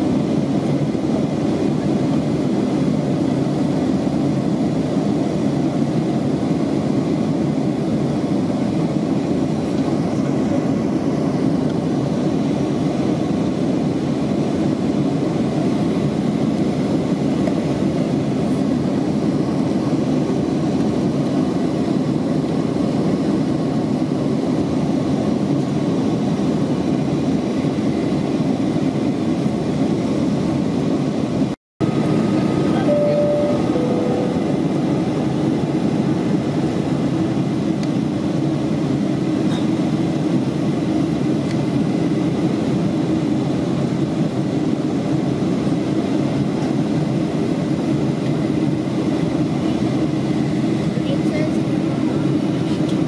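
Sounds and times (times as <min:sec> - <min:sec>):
jet engines droning: 0:00.0 - 0:53.0.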